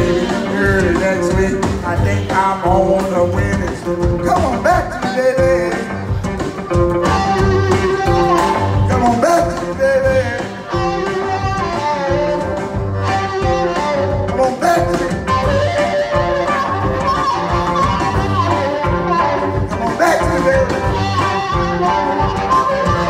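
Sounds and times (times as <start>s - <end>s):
drums: 0.0s - 23.0s
electric guitar: 0.0s - 23.0s
harmonica bending notes: 0.0s - 23.0s.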